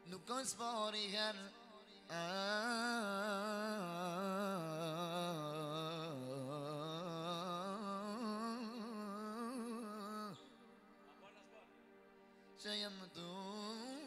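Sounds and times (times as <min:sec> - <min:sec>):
man singing wordless folk melody: 0:00.0 - 0:10.4, 0:12.6 - 0:14.0.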